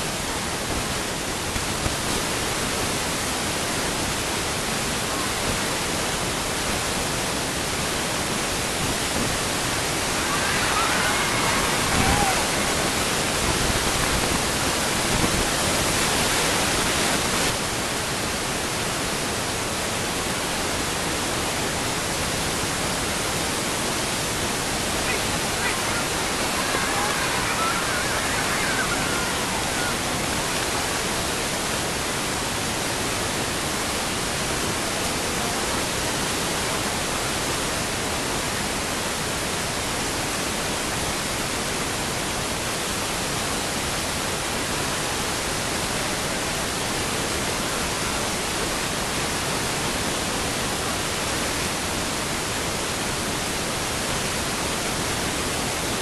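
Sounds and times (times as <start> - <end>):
steady static hiss: 0.0 - 56.0.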